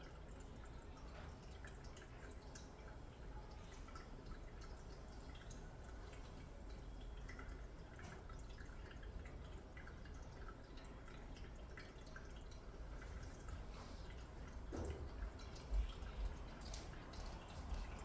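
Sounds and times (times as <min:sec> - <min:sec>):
cat lapping water: 0:00.1 - 0:18.0.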